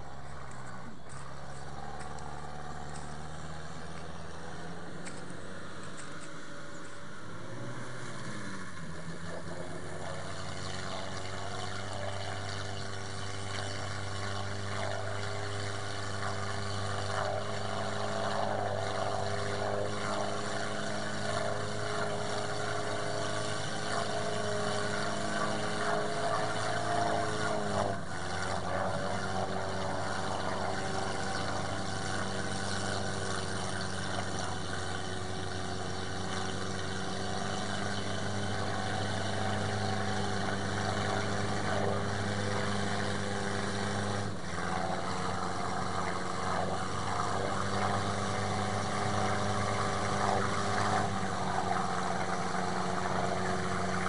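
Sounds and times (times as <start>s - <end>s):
vehicle engine under load: 0.0s - 54.0s.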